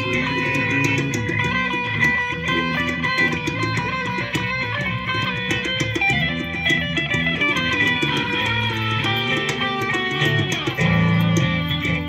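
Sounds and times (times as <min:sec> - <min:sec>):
electric guitar lines: 0:00.0 - 0:12.0
live rock band: 0:00.0 - 0:12.0
steady bass line: 0:00.0 - 0:12.0.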